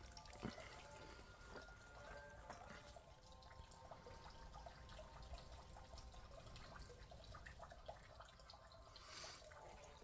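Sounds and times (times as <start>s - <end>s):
small ticks or drips: 0.0s - 10.0s.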